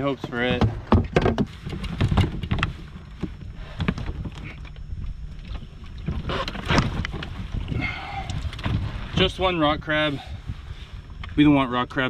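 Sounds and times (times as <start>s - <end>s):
wind rumble on microphone: 0.2s - 12.0s.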